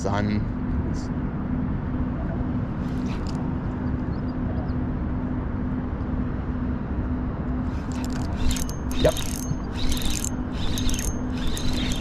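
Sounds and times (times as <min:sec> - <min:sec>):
low rumble with pulsing hum: 0:00.0 - 0:12.0.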